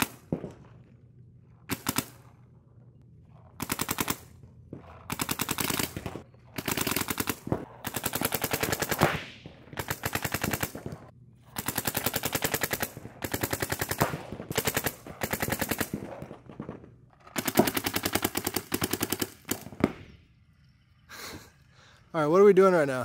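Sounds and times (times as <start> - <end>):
paintball markers firing: 0.0 - 20.2.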